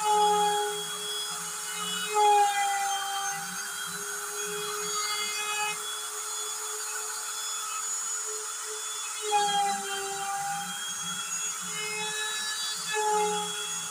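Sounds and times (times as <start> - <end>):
router bit cutting wood: 0.0 - 13.9
router whining: 0.0 - 13.9.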